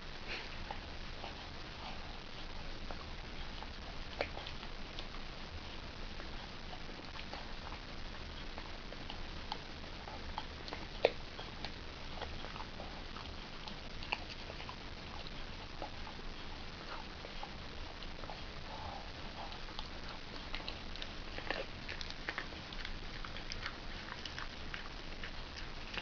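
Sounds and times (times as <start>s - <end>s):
dog chewing: 0.5s - 26.0s.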